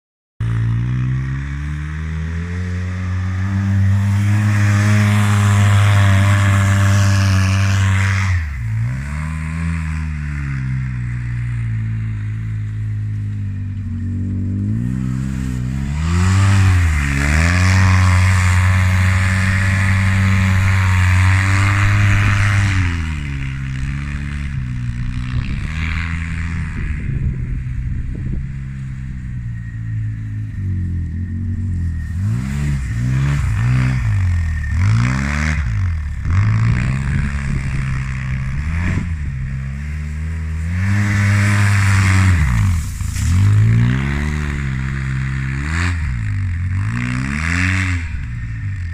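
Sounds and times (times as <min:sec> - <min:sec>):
vehicle engine revving under load: 0:00.4 - 0:48.9.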